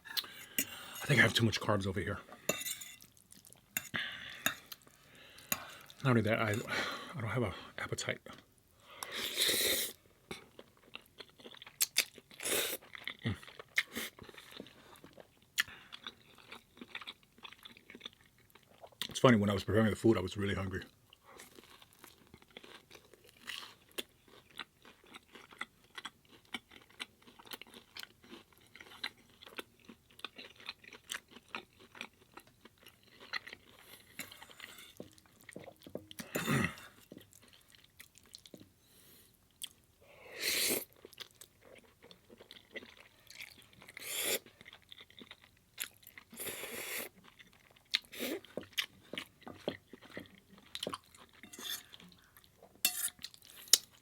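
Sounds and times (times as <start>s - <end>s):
person chewing food: 0.0s - 1.2s, 2.3s - 7.0s, 8.3s - 19.1s, 21.2s - 38.7s, 39.5s - 39.8s, 40.5s - 54.0s.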